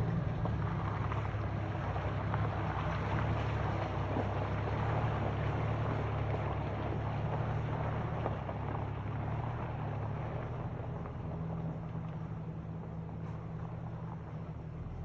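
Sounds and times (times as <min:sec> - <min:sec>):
vehicle engine driving away: 0:00.0 - 0:15.0.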